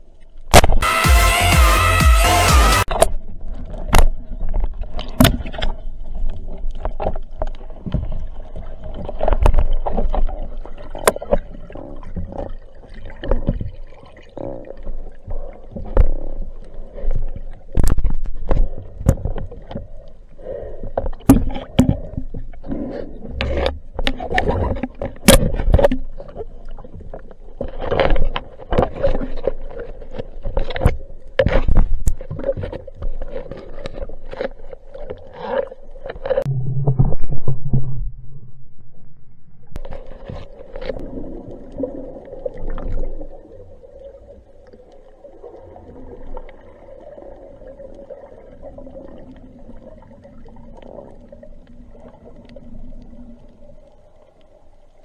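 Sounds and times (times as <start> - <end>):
water moving against camera: 2.9 - 55.0.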